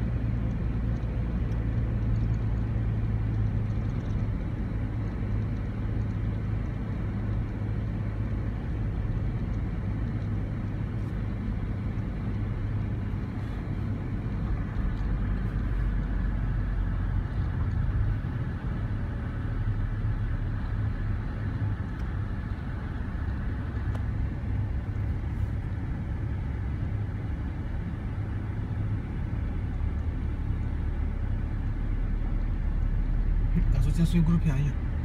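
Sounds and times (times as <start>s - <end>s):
tyres on road: 0.0s - 35.0s
vehicle engine rumble: 0.0s - 35.0s.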